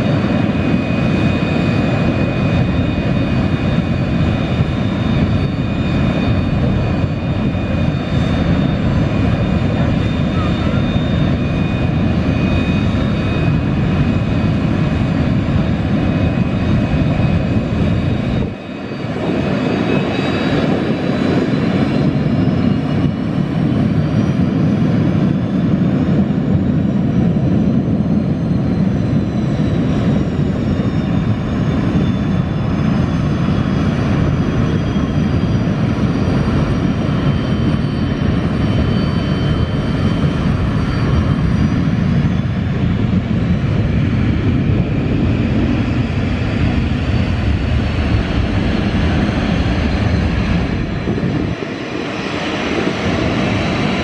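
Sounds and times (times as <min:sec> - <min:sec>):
jet engine rush with turbine whine: 0:00.0 - 0:54.0.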